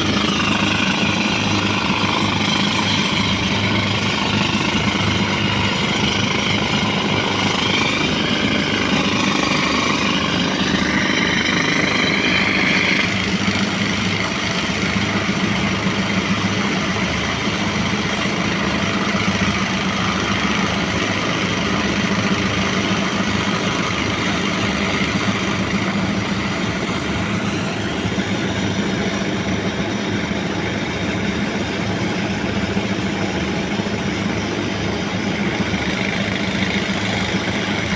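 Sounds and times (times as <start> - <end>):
air compressor engine running: 0.0 - 37.9
pneumatic rock drill hammering: 0.0 - 37.9.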